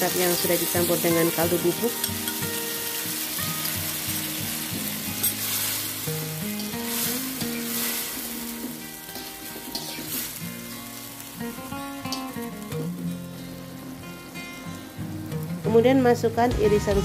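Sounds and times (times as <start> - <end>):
tofu sizzling in hot oil: 0.0 - 15.5
background music: 0.0 - 17.0.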